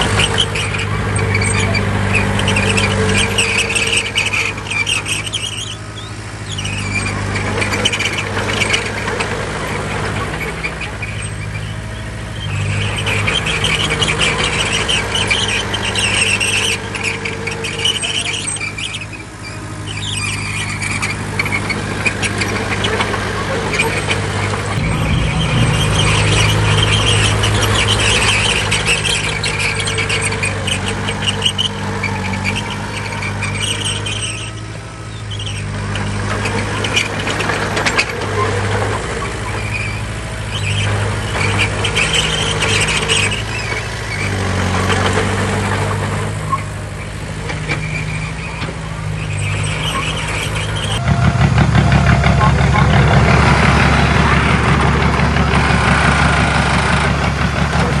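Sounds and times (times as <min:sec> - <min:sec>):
high metallic squeal: 0:00.0 - 0:57.1
diesel engine running: 0:00.0 - 0:58.0.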